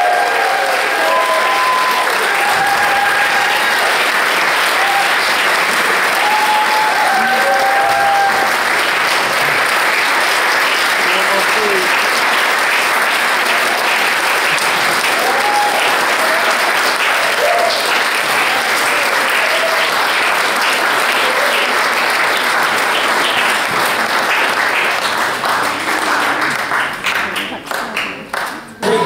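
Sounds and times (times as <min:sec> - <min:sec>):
crowd applauding: 0:00.0 - 0:29.0.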